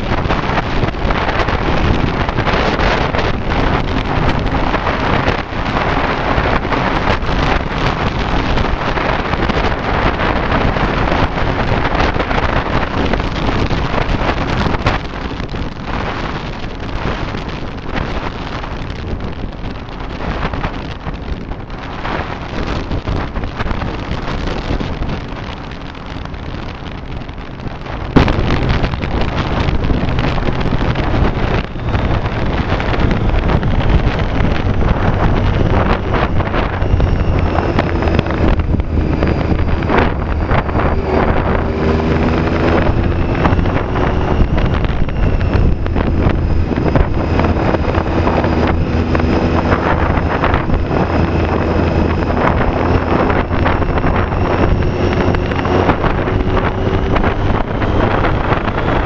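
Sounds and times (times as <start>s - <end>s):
motorcycle engine drone: 0.0s - 59.0s
wind buffeting microphone: 0.0s - 59.0s.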